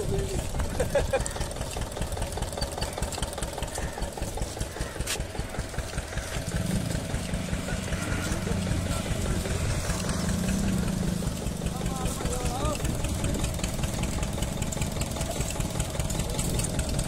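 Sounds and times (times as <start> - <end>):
engine idling with low thumping: 0.0 - 17.0.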